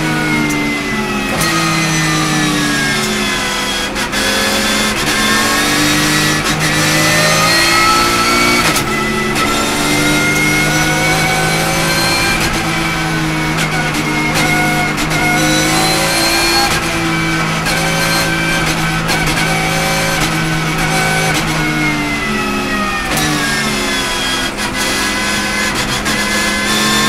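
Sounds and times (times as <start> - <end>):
race car engine revving: 0.0 - 27.0
wind and tyre noise: 0.0 - 27.0.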